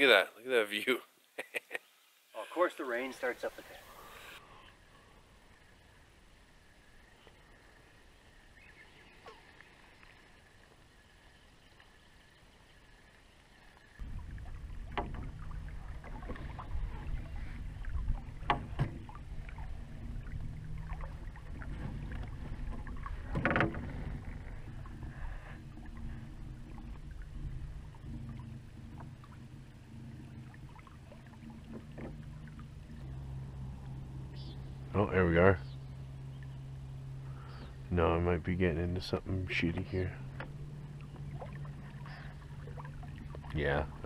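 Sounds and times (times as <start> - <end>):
boat engine hum: 2.4 - 44.0.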